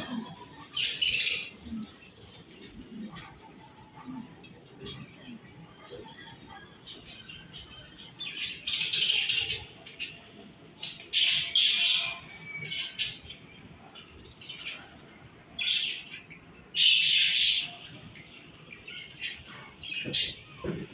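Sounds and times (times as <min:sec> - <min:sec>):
budgerigars chirping and chattering: 0:00.0 - 0:04.0, 0:06.0 - 0:20.9.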